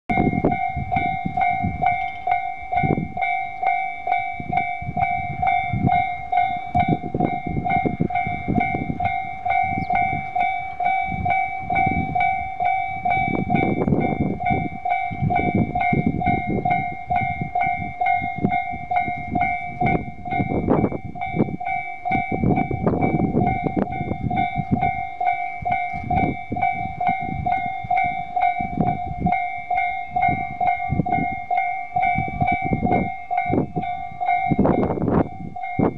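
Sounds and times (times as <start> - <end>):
level-crossing alarm ringing: 0.1 - 35.9
train rumbling and knocking: 0.1 - 35.9.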